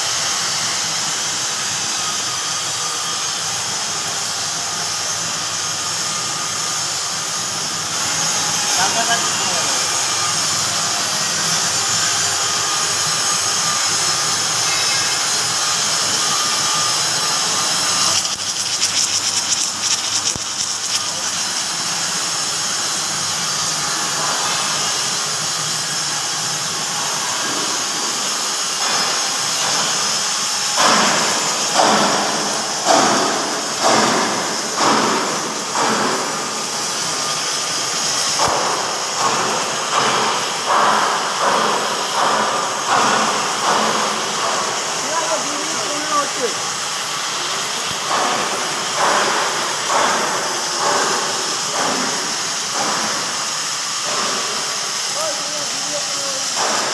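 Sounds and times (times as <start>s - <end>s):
welding machine hissing rush: 0.0s - 56.9s.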